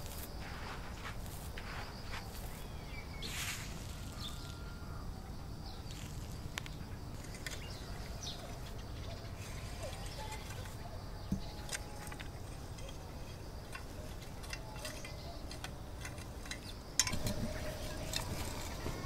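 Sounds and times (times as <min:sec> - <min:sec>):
rake scraping stony soil: 0:00.0 - 0:05.0, 0:05.6 - 0:10.8, 0:11.4 - 0:19.0
rake tines clicking on pebbles: 0:00.0 - 0:19.0.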